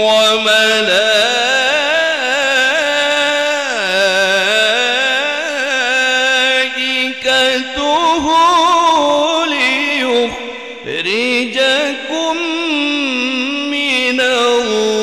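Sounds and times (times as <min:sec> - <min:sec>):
man reciting through microphone: 0:00.0 - 0:15.0.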